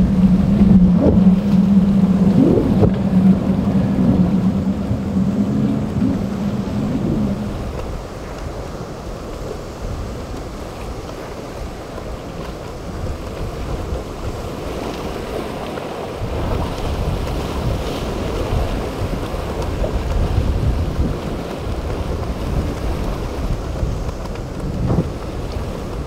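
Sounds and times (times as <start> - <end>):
boat outboard motors running: 0.0 - 26.0
rough surf: 0.0 - 26.0
wind buffeting microphone: 0.0 - 26.0.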